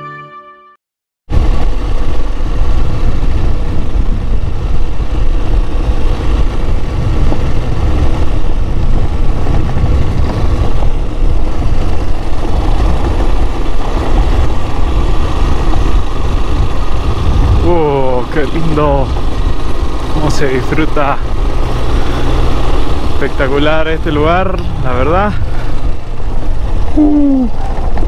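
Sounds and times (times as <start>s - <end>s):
motorcycle engine running: 1.3s - 28.0s
wind rumble on microphone: 1.3s - 28.0s.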